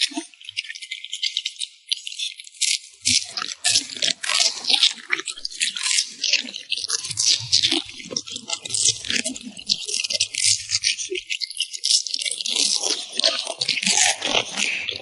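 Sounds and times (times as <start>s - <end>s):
dog chewing and crunching food: 2.6s - 15.0s.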